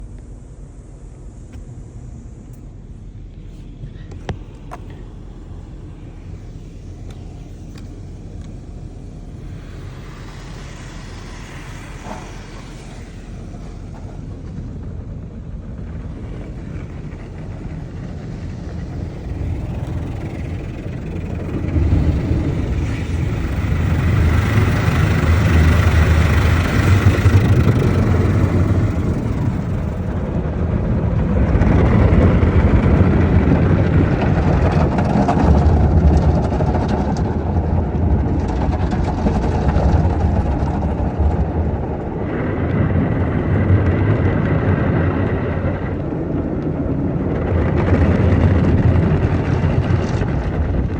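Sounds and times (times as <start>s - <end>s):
car wash machinery rumbling: 0.0s - 50.9s.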